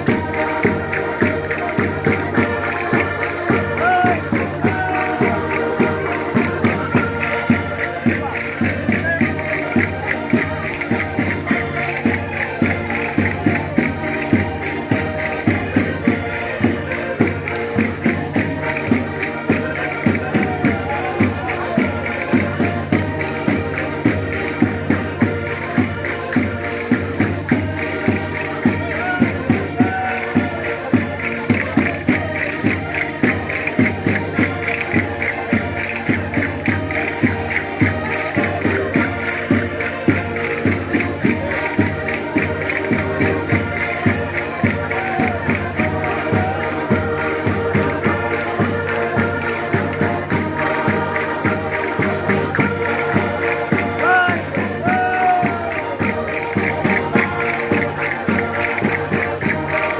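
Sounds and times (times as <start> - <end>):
concertinas playing dance tune: 0.0 - 59.9
steady percussive beat: 0.0 - 59.9.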